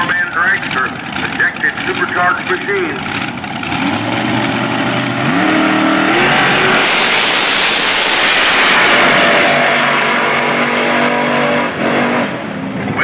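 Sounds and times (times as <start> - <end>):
dragster engines roaring: 0.0 - 13.0.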